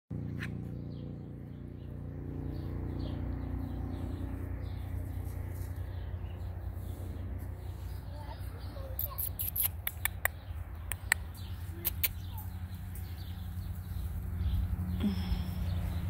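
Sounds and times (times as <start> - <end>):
bird chirps: 0.4 - 16.0.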